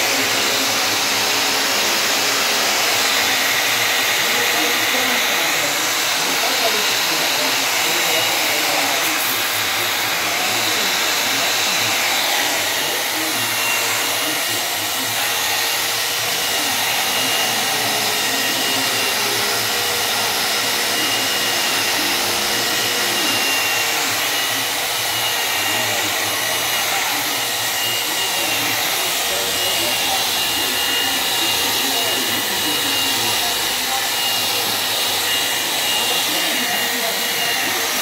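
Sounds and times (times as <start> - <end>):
angle grinder motor whine: 0.0 - 38.0.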